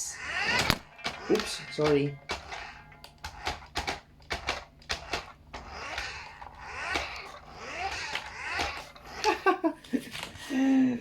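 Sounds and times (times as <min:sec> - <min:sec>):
toy car motor whirring: 0:00.0 - 0:09.6.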